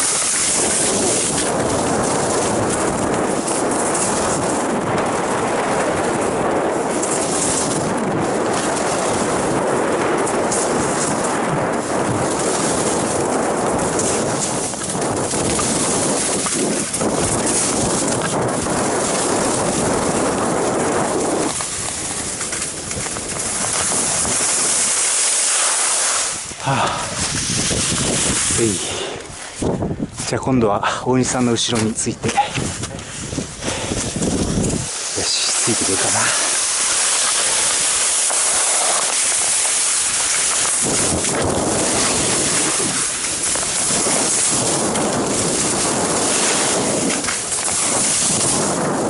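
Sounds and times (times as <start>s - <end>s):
skis hissing and scraping on snow: 0.0s - 30.3s, 32.3s - 49.0s
wind on microphone: 0.0s - 49.0s.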